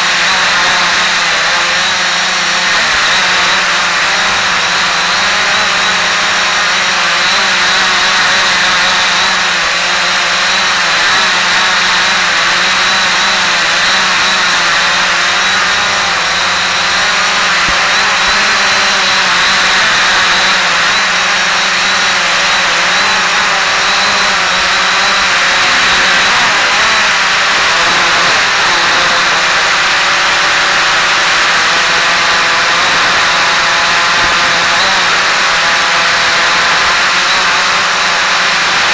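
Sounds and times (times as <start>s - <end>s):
quadcopter propellers whining: 0.0s - 38.9s.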